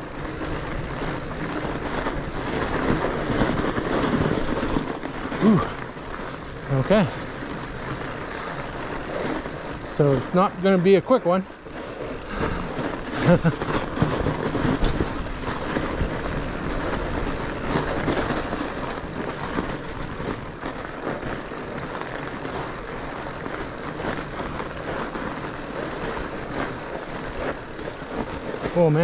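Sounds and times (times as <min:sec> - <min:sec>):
bike tyres rolling on snow: 0:00.0 - 0:29.0
snow crunching and knocks: 0:00.0 - 0:29.0.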